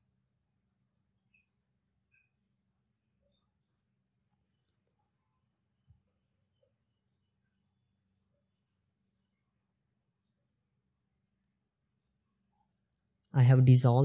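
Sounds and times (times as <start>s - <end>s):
faint high chirps: 0.0s - 14.0s.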